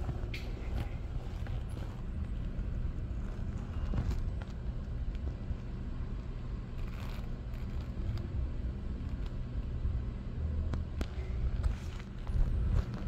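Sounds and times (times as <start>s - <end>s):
low rumble indoors: 0.0s - 13.0s.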